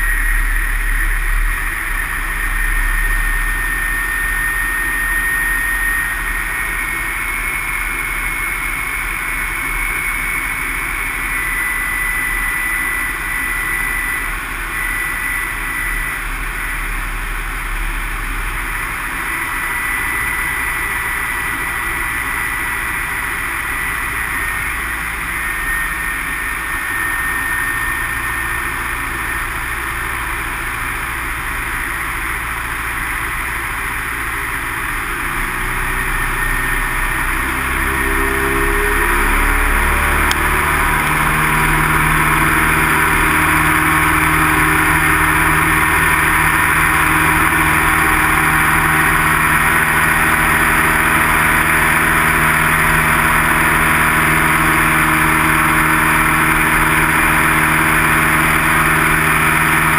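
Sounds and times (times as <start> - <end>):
propeller plane engine: 0.0 - 59.9.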